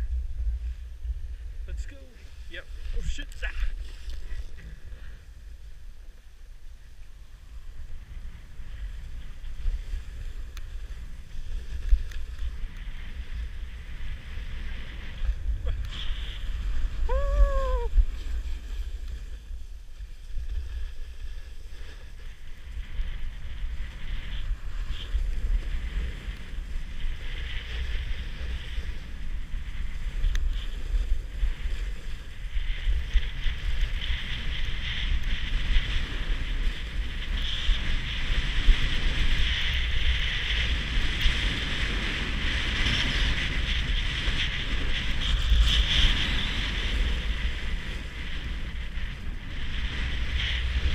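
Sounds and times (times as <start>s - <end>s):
skis sliding over snow: 0.0s - 50.9s
wind buffeting microphone: 0.0s - 50.9s.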